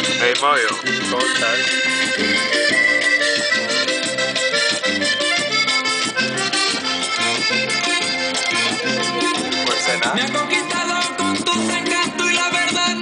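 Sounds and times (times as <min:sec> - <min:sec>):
accordion dance music: 0:00.0 - 0:13.0
repeating bass beat: 0:00.0 - 0:13.0.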